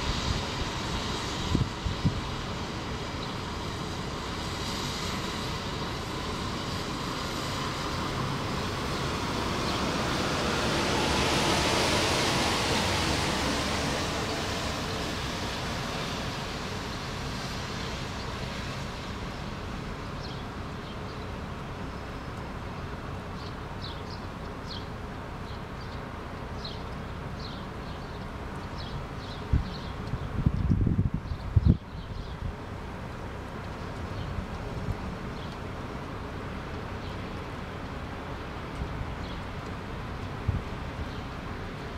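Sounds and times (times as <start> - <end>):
distant traffic: 0.0 - 41.9.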